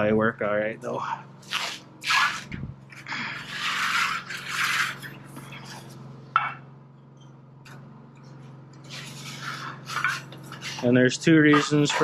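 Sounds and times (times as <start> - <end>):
steady low hum: 0.0 - 12.0
metal trim scraping: 1.3 - 6.6, 7.7 - 12.0.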